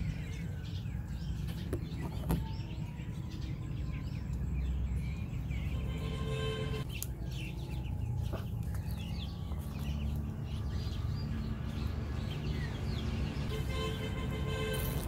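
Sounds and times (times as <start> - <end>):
ducklings peeping: 0.0 - 13.6.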